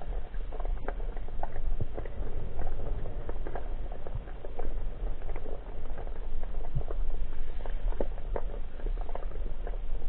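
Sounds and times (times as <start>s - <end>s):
crackling clicks underwater: 0.0s - 10.0s
underwater rumble: 0.0s - 10.0s.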